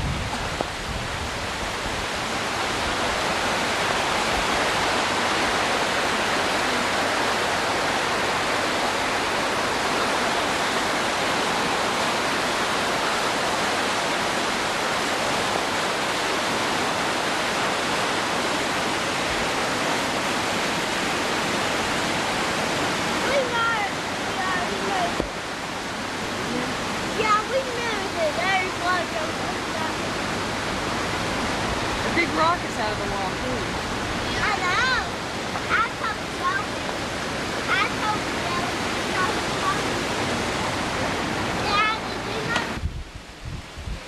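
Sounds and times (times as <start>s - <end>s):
rushing floodwater: 0.0s - 44.0s.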